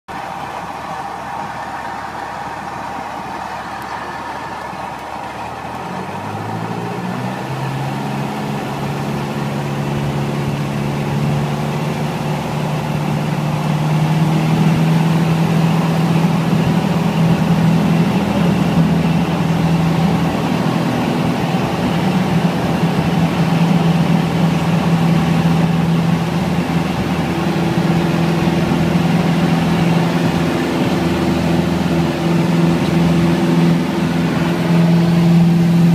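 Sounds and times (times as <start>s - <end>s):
propeller aircraft engine drone: 0.1s - 35.9s.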